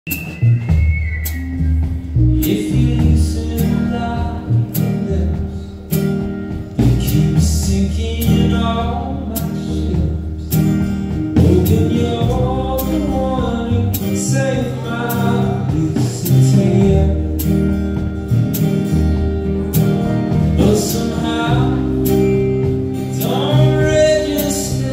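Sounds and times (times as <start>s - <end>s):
live band playing: 0.1s - 24.9s
strummed acoustic guitars: 0.2s - 24.9s.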